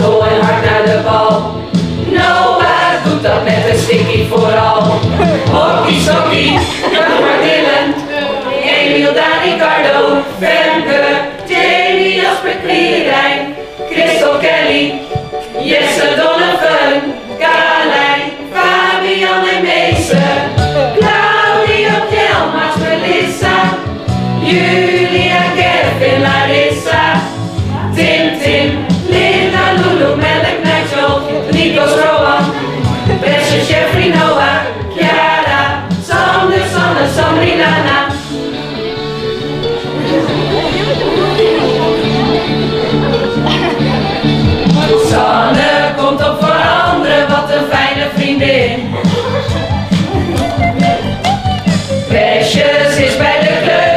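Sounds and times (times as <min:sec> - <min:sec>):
mixed choir singing: 0:00.0 - 0:53.9.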